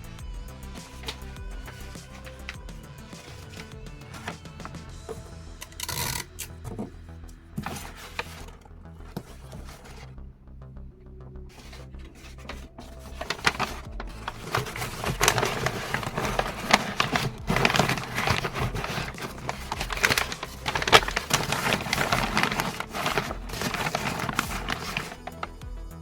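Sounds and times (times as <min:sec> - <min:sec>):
packing material crinkling: 0:00.9 - 0:06.8, 0:07.6 - 0:10.1, 0:11.5 - 0:25.6.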